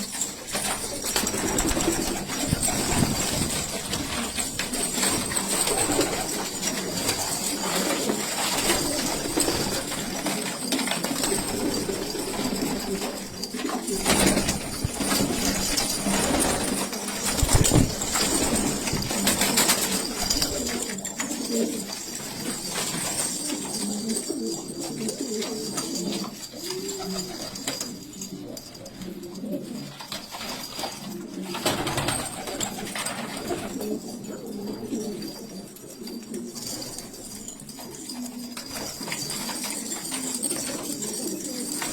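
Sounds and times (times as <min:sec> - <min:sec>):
pigeons cooing: 0:00.0 - 0:41.9.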